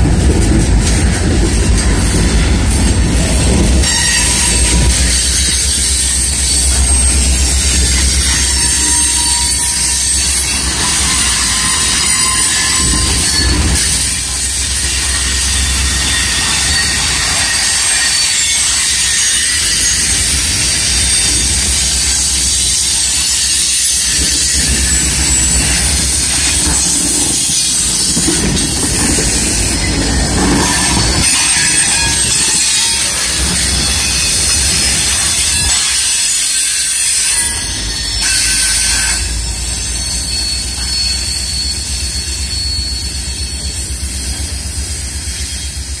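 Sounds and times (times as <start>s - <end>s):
steel wheels grinding on rails: 0.0s - 46.0s
high-pitched wheel squeal: 1.6s - 46.0s.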